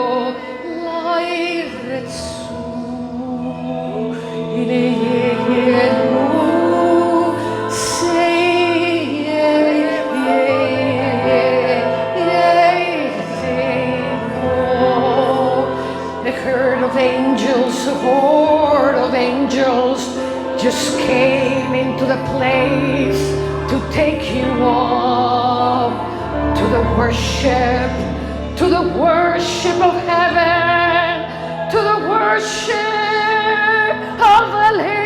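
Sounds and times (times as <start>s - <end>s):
sustained low chords: 2.6s - 32.2s.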